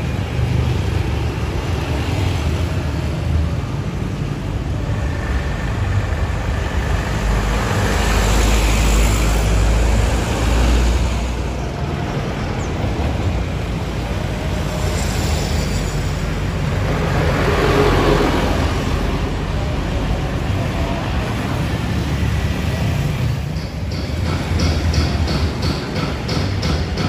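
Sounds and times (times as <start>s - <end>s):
diesel trucks rumbling past: 0.0s - 27.0s
road traffic: 0.0s - 27.0s.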